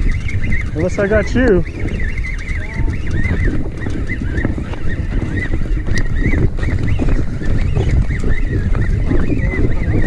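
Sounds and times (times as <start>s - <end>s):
high chirping squeaks: 0.0s - 10.0s
wind buffeting microphone: 0.0s - 10.0s.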